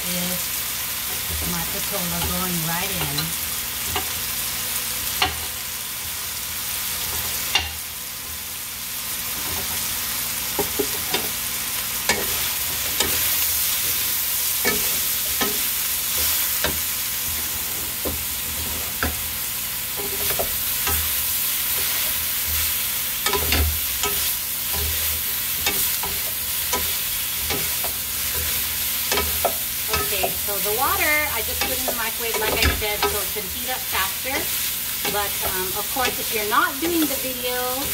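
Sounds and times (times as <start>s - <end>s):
food sizzling in a pan: 0.0s - 37.9s.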